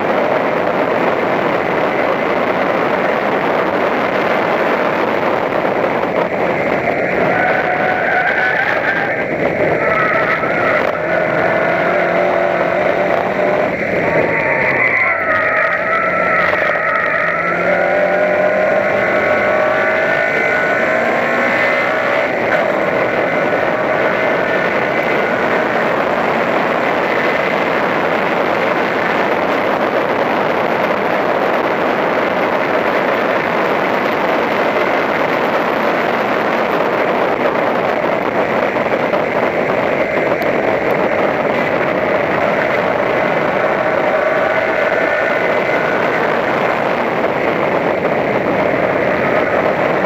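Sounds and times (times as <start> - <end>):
race car engine at high revs: 0.0 - 50.0
wind and road noise: 0.0 - 50.0.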